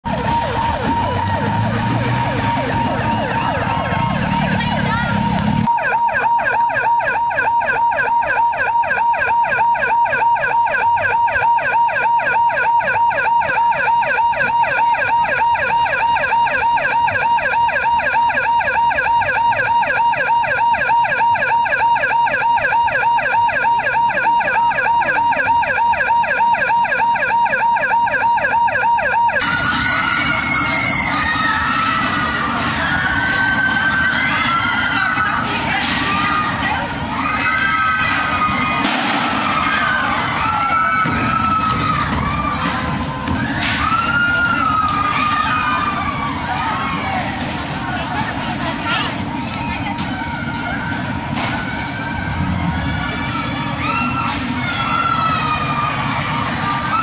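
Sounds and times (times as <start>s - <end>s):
emergency siren warbling: 0.0s - 57.0s
outdoor background noise: 0.0s - 57.0s.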